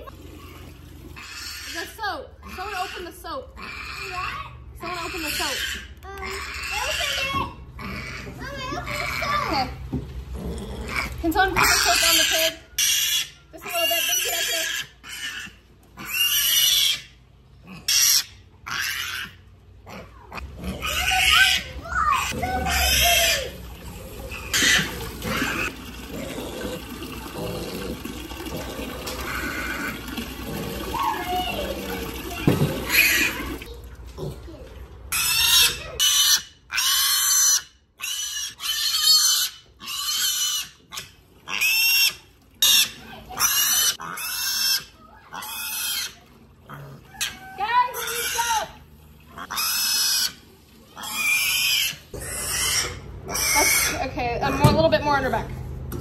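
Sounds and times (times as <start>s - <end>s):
piglet squealing: 1.2s - 9.8s, 10.6s - 27.9s, 28.6s - 34.4s, 35.1s - 54.7s.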